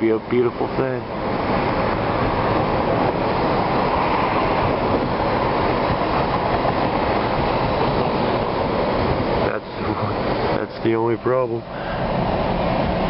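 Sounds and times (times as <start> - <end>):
car interior road noise: 0.0 - 13.0.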